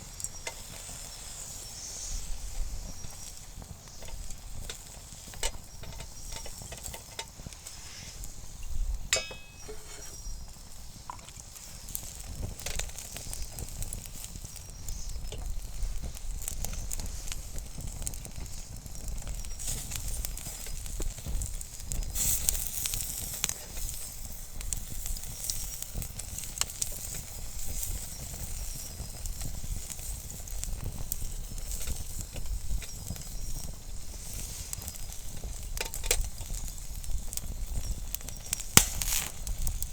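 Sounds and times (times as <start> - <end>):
burning wood crackling and popping: 0.0 - 39.9
meat sizzling over a fire: 0.0 - 39.9.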